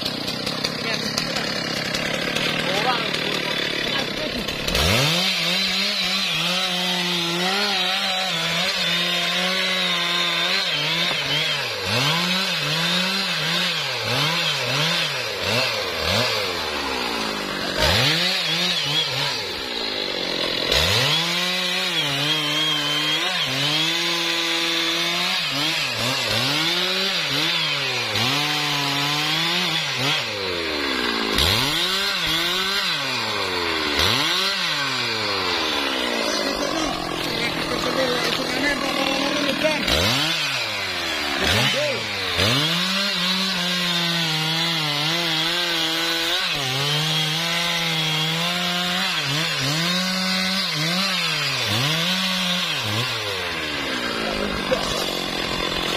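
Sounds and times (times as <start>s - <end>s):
chainsaw cutting through wood: 0.0s - 55.9s.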